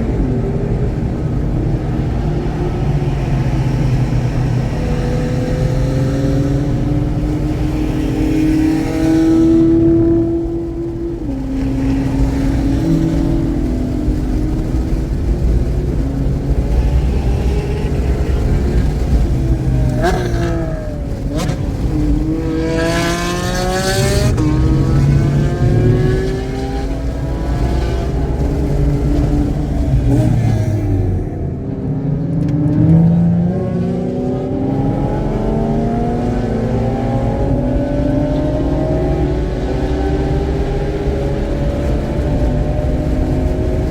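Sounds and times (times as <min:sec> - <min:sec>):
race car engine running: 0:00.0 - 0:43.9.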